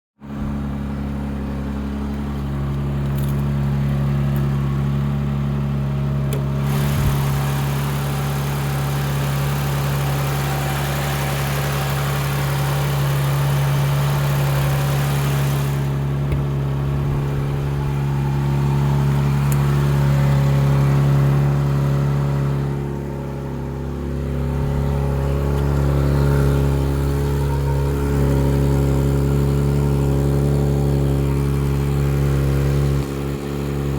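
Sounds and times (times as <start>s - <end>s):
minivan low hum: 0.2s - 33.9s.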